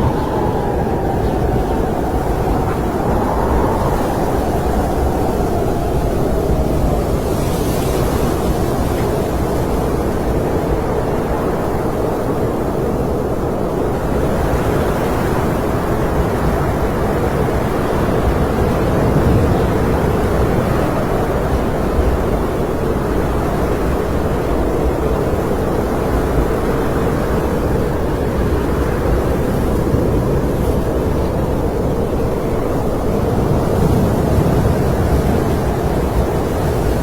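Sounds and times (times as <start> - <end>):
howling storm wind: 0.0 - 37.0.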